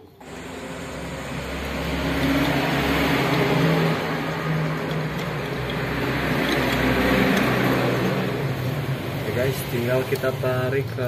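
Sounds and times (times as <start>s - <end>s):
vehicle engine running: 0.2s - 11.0s.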